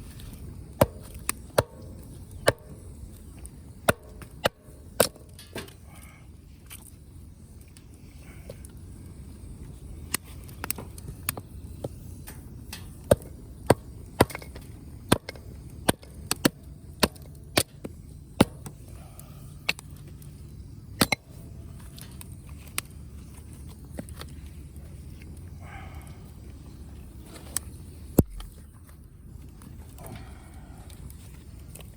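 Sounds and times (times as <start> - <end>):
firewood crackling and popping: 0.0 - 31.9.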